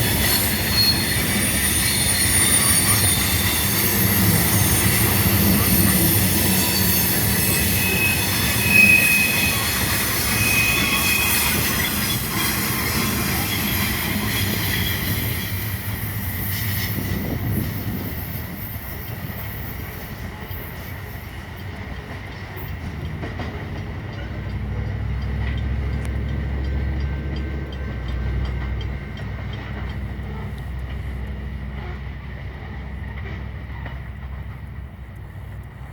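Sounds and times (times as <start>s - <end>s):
train wheel squeal: 0.0s - 34.7s
low train rumble: 0.0s - 35.9s
train cars rolling on rails: 0.0s - 35.9s.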